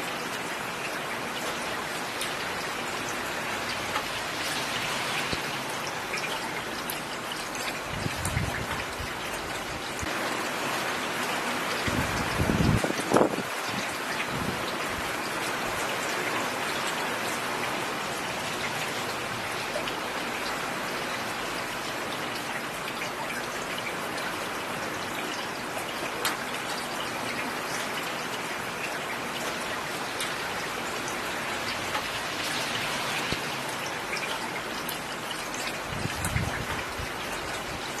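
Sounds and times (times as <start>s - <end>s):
rain falling on a road: 0.0s - 38.0s.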